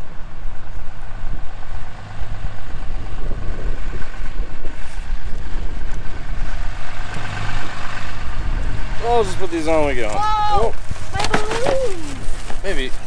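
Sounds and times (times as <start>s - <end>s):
diesel truck engine idling: 0.0s - 10.8s.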